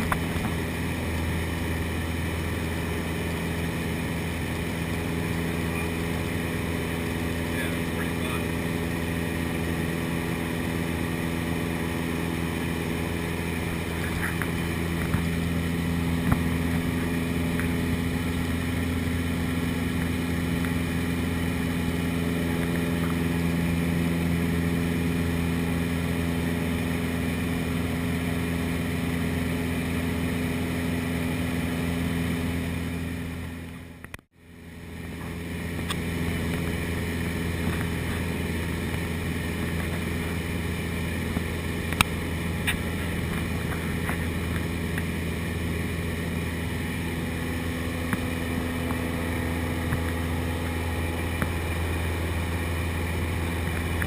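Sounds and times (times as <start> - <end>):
light plane engine drone in cabin: 0.0 - 54.0.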